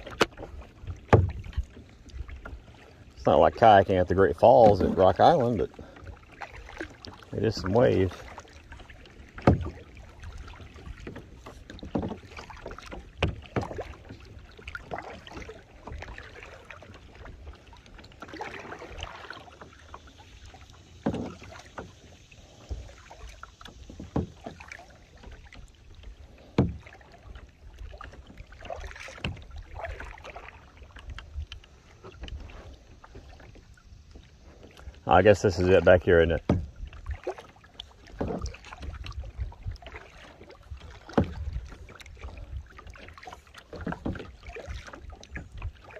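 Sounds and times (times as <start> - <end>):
paddle splashing in water: 0.0 - 45.9.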